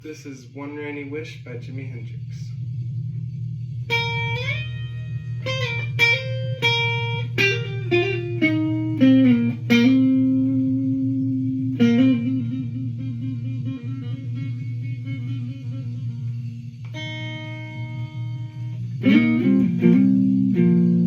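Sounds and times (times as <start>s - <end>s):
steady low hum: 0.0s - 21.0s
electric guitar solo: 3.9s - 21.0s.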